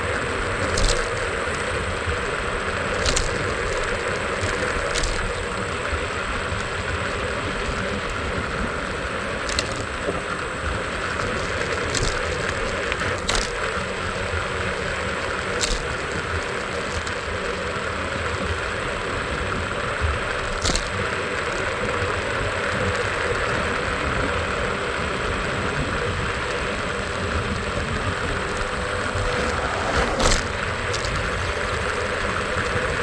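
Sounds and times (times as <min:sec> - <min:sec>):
road and traffic noise: 0:00.0 - 0:33.0.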